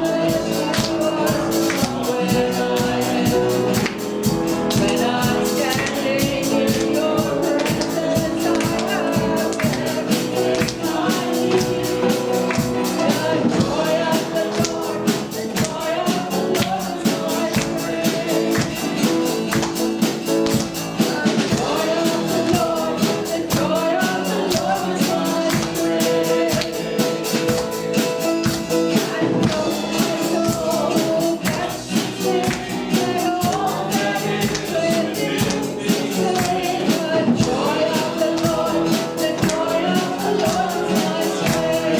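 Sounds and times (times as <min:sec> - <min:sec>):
band playing worship music: 0:00.0 - 0:41.9
fast percussion beat: 0:00.0 - 0:41.9
voices singing: 0:00.0 - 0:41.9.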